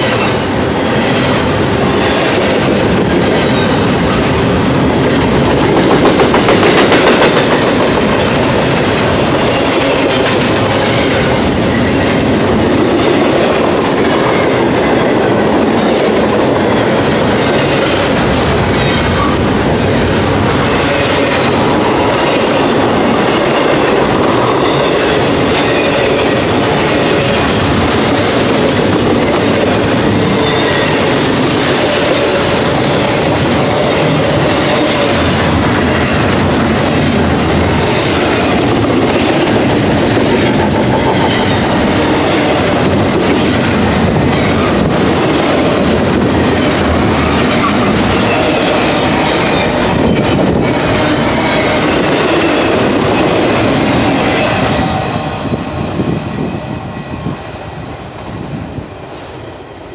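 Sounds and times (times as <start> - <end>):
steel wheels rolling on rail: 0.0 - 59.9.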